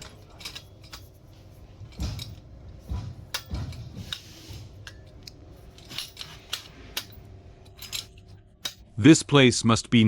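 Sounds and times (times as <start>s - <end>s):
metal parts clinking and knocking: 0.0s - 8.9s.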